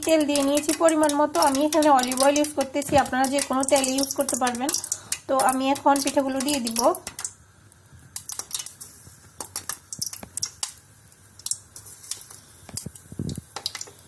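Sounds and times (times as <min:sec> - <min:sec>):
batter deep-frying in oil crackling: 0:00.0 - 0:14.0.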